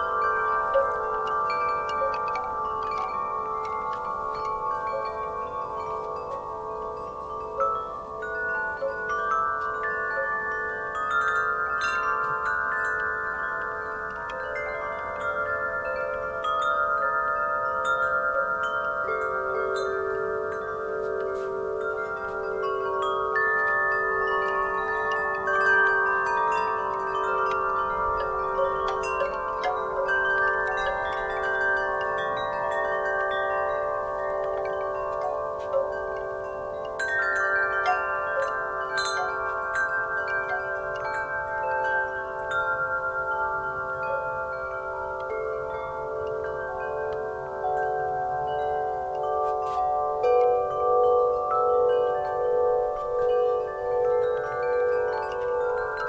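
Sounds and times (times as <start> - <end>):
wind chimes ringing: 0.0 - 56.0.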